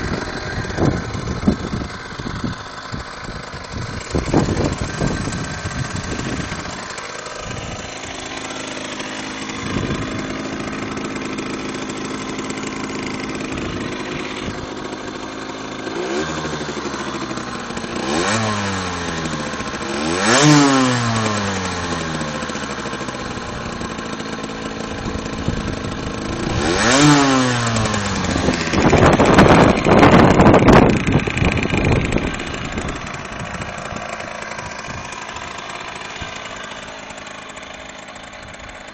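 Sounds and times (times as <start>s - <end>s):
moped engine revving: 0.0s - 38.9s.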